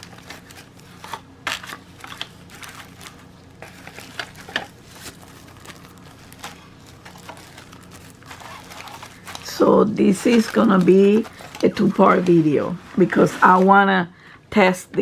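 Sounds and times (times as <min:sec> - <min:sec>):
packaging rustling and crinkling: 0:00.0 - 0:13.8.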